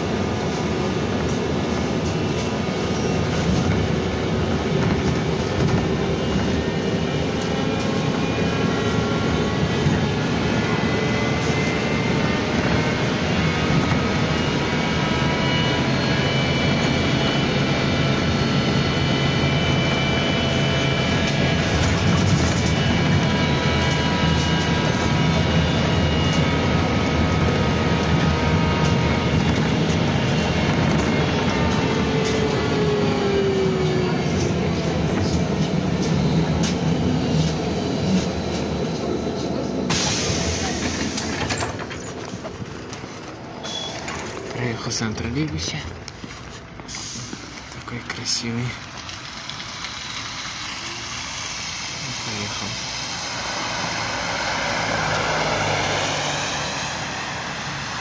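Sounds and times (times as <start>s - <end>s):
rolling road noise: 0.0s - 58.0s.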